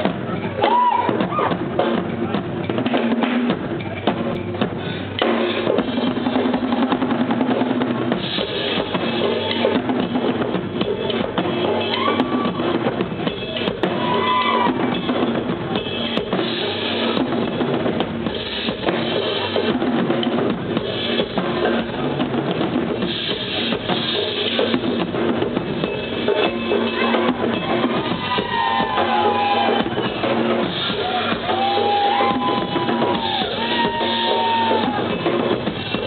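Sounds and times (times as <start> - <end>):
drum kit steady beat: 0.0 - 36.0
live band playing: 0.0 - 36.0.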